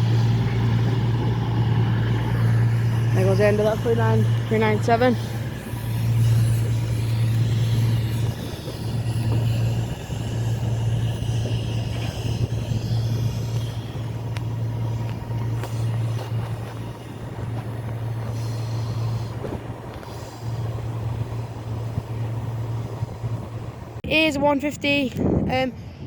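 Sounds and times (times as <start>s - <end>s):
train high whine: 0.0s - 24.8s
train low hum: 0.0s - 26.0s.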